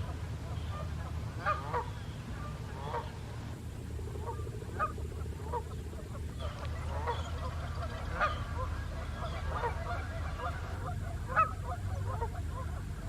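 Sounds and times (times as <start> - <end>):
geese honking: 0.0 - 13.0
steady low rumble: 0.0 - 13.0.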